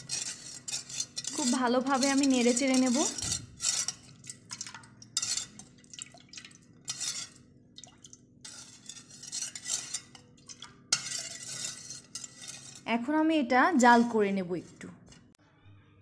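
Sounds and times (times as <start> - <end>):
spoon scraping metal pot: 0.0 - 7.4, 8.4 - 13.1, 13.7 - 15.4.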